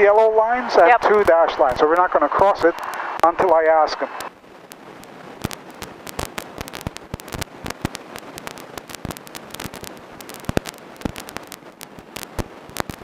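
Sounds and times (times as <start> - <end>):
crackling static: 0.0 - 13.0.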